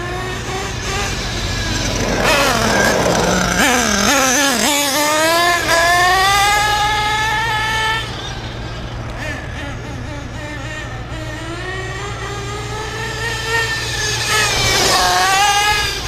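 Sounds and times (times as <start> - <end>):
rc car nitro engine revving: 0.0 - 16.0.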